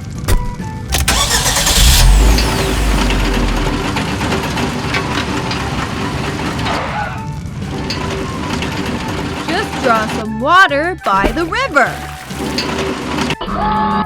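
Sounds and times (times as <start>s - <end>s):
excavator engine rumbling: 0.9s - 10.4s, 11.0s - 13.5s.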